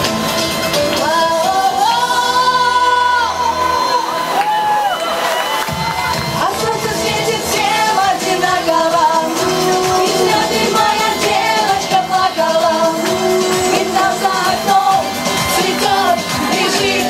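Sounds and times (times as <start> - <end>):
upbeat pop song: 0.0 - 4.8, 5.6 - 17.0.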